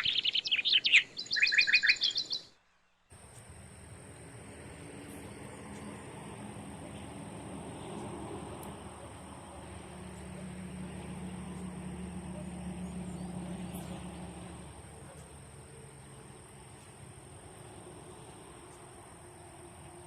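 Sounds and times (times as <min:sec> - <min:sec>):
distant motor running: 0:03.1 - 0:20.0.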